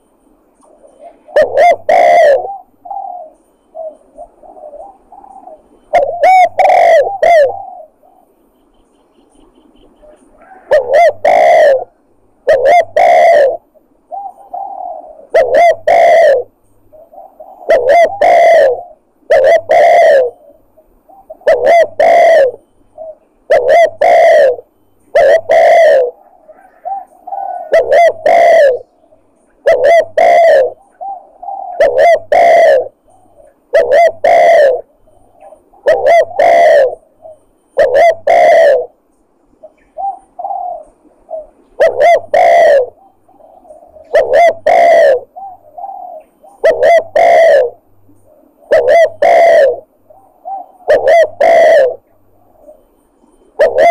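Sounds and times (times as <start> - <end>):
recorded dove cooing: 0.0 - 53.9.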